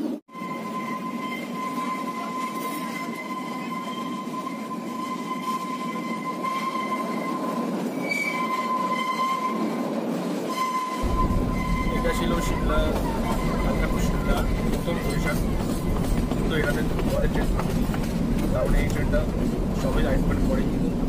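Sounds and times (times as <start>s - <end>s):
wheels rumbling on rails: 0.0s - 21.0s
train wheels squealing: 0.3s - 21.0s.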